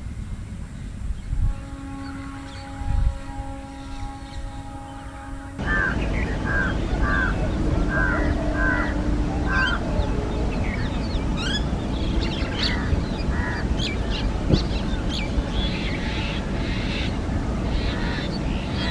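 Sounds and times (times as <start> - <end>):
low background rumble: 0.0 - 18.9
birds calling: 0.1 - 18.9.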